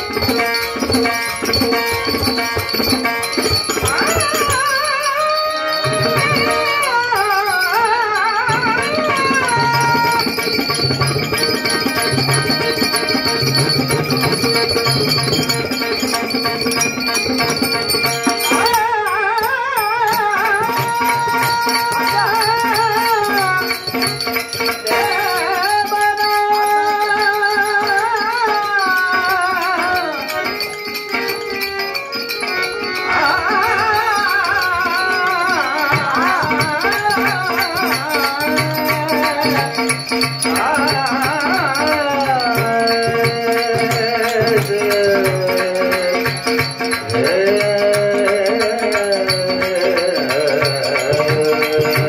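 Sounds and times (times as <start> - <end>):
harmonium: 0.0 - 52.0
small hand cymbals: 0.0 - 52.0
tabla: 0.0 - 52.0
man singing into microphone: 3.5 - 14.8, 18.5 - 30.6, 33.1 - 52.0.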